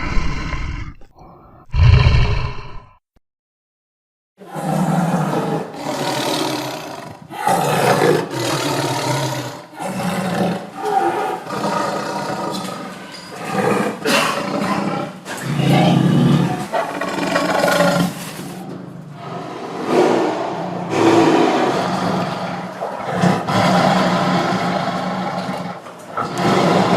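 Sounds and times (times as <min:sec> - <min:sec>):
lion roaring: 0:00.0 - 0:03.0, 0:04.4 - 0:26.9.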